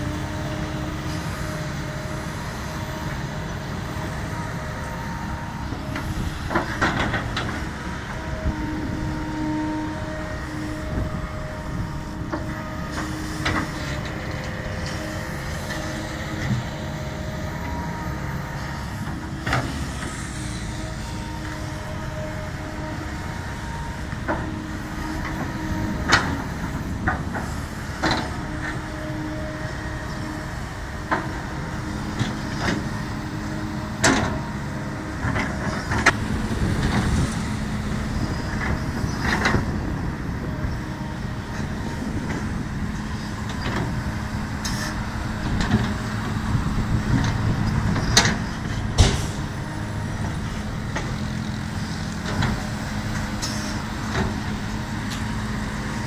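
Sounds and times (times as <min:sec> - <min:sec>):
excavator diesel engine hum: 0:00.0 - 0:56.0.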